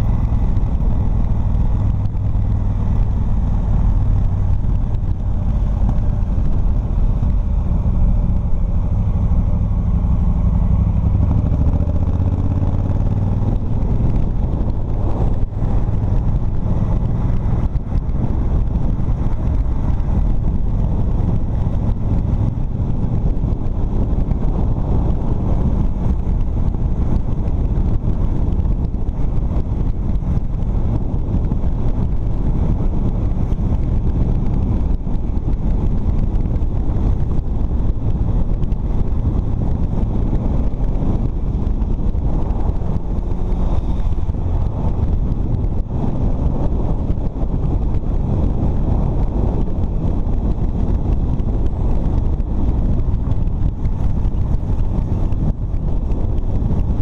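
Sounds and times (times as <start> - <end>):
motorcycle engine running: 0.0 - 57.0
wind and road rush: 0.0 - 57.0.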